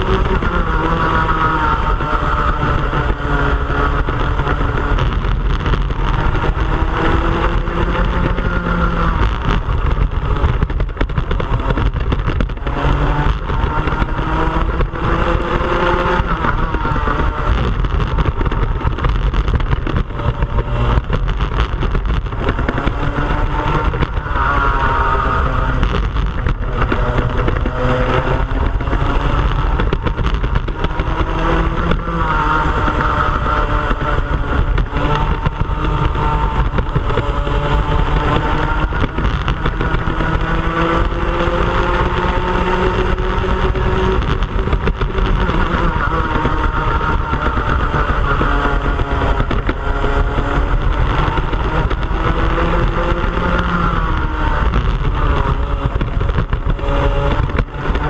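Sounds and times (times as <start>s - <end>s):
kart engine revving: 0.0s - 58.0s
other karts running: 0.0s - 58.0s.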